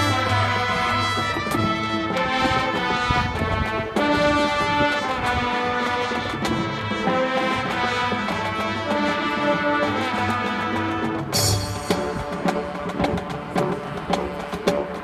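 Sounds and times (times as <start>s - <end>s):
marching band brass chords: 0.0s - 15.0s.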